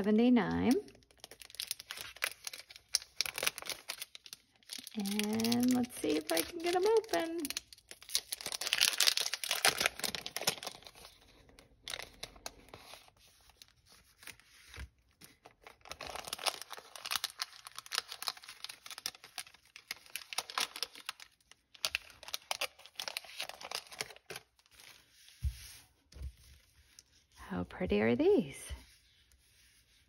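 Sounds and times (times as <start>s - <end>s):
packet crinkling and rustling: 0.0s - 27.4s.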